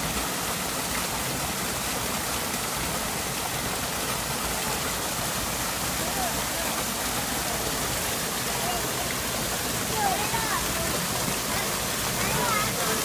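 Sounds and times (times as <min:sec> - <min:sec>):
small waterfall splashing into pond: 0:00.0 - 0:13.0.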